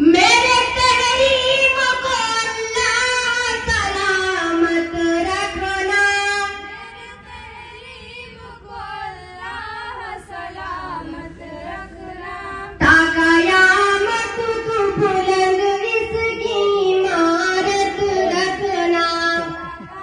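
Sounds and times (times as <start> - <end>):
girls singing into a microphone: 0.0 - 20.0.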